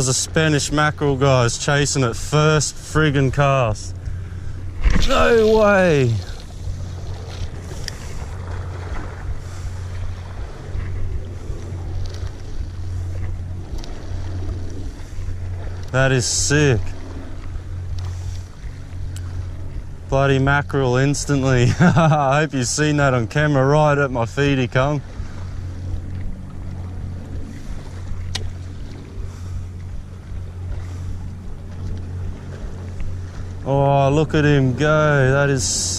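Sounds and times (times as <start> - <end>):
wind buffeting microphone: 0.0 - 35.9
sea washing against rocks: 4.6 - 35.9.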